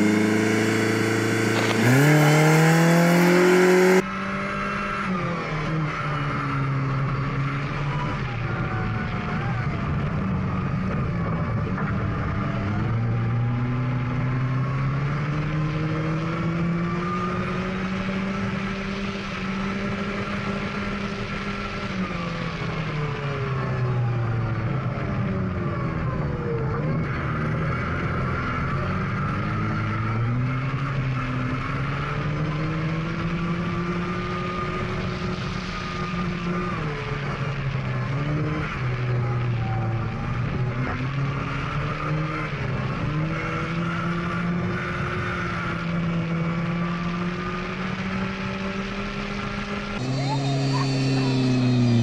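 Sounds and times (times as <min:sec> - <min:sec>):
rally car engine revving: 0:00.0 - 0:52.0
tyre and road noise: 0:00.0 - 0:52.0.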